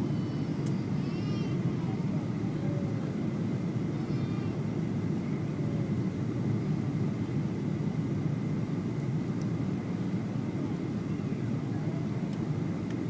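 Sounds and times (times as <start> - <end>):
airplane cabin roar: 0.0 - 13.0
faint high whine: 0.0 - 13.0.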